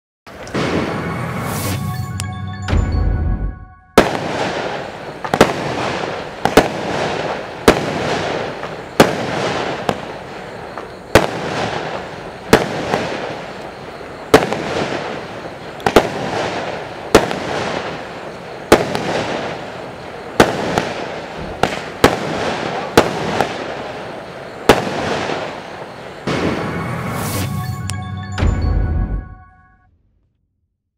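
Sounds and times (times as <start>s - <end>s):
fireworks bangs: 0.3s - 29.3s.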